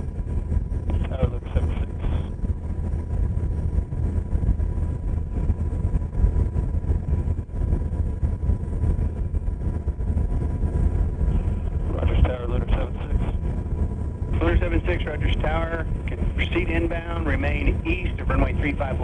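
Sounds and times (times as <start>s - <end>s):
helicopter rotor and engine rumble: 0.0s - 19.0s.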